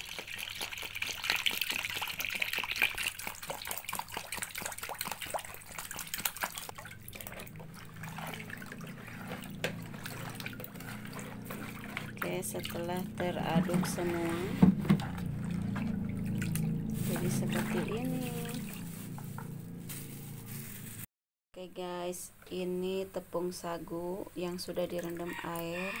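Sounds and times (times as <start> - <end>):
water pouring and sloshing: 0.0 - 20.9.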